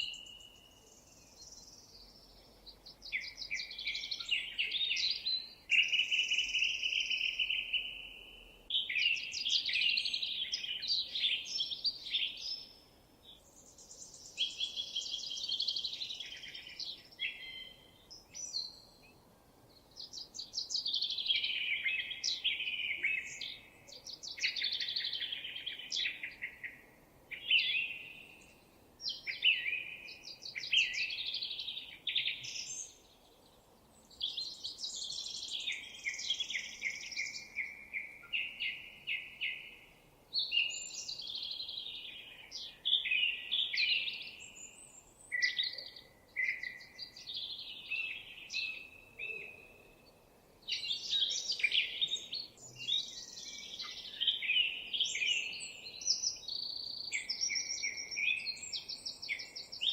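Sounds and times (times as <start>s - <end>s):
faint background hiss: 0.0s - 59.9s
songbird singing: 0.0s - 59.9s.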